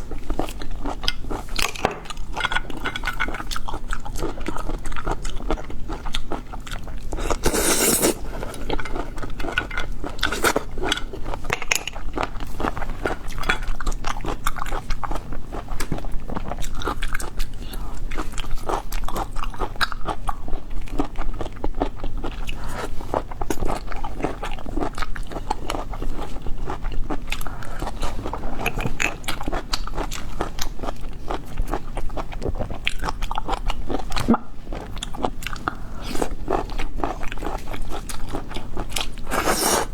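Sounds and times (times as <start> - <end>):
wet chewing and smacking: 0.1 - 39.8.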